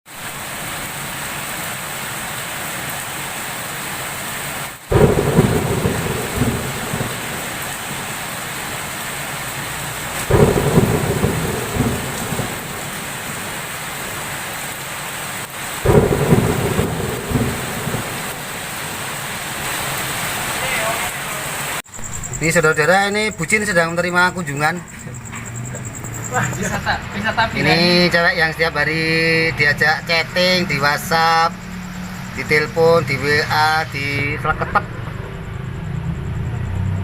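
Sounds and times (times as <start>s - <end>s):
heavy rain: 0.1s - 37.0s
thunder claps rumbling: 4.9s - 28.5s, 29.5s - 37.0s.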